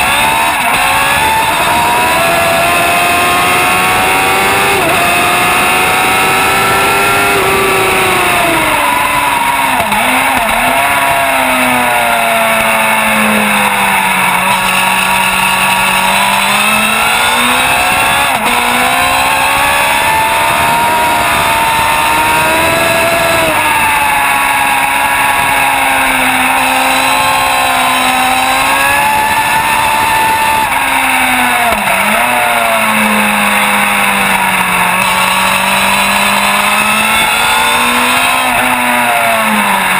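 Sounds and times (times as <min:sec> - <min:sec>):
race motorcycle engine screaming: 0:00.0 - 0:39.9.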